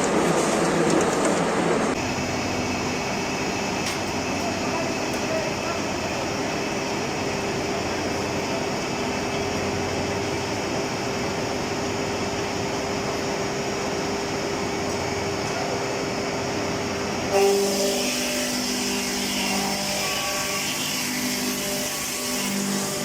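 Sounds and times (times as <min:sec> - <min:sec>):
sawing machine running: 0:00.0 - 0:23.0.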